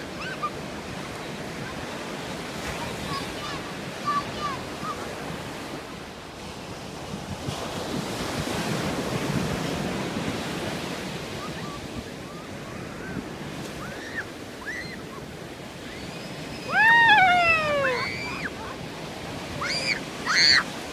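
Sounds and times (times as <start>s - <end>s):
ocean surf on beach: 0.0s - 20.9s.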